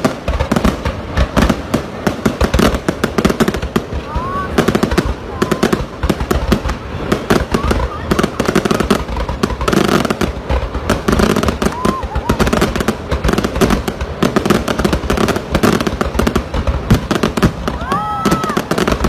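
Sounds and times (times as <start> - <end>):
fireworks popping and banging: 0.0 - 19.0.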